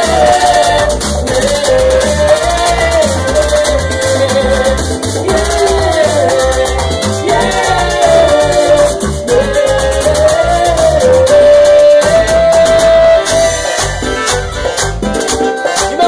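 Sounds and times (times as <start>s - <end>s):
held melody line: 0.0s - 16.0s
metal scraper rhythm: 0.0s - 16.0s
pulsing bass: 0.0s - 16.0s.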